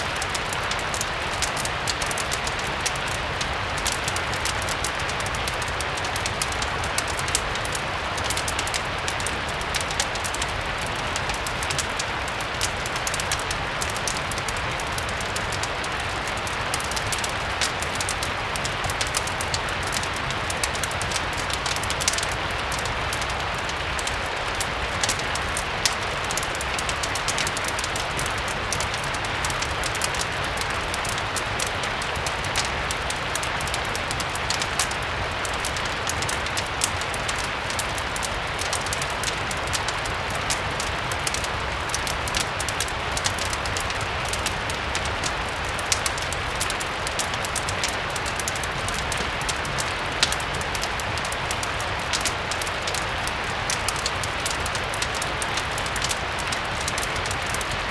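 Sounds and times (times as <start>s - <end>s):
fireplace crackling: 0.0s - 57.9s
steady rain: 0.0s - 57.9s.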